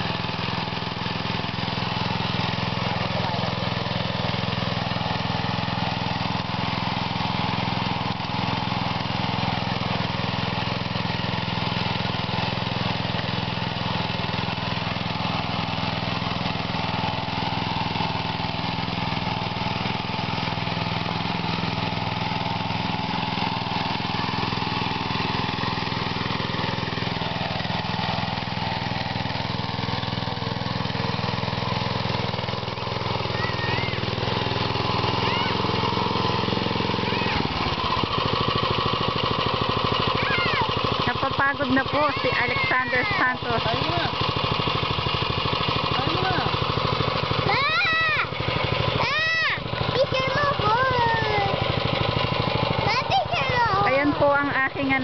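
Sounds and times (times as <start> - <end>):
small gasoline engine running: 0.0 - 55.0
tines tilling soil: 0.0 - 55.0.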